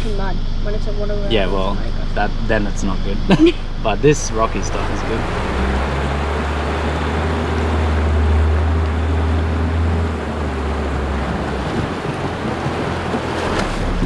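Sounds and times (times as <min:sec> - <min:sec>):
vehicle engine droning: 0:00.0 - 0:14.0
water rushing and splashing: 0:01.3 - 0:14.0.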